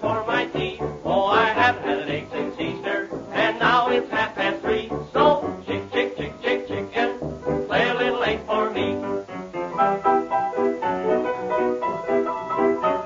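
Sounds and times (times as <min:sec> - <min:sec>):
lively background music: 0:00.0 - 0:13.0.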